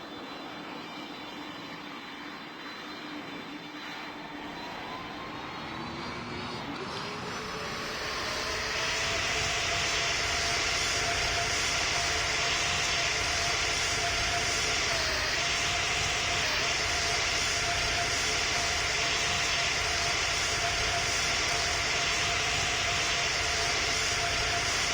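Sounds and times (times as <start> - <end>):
jet engines whining: 0.0 - 24.9.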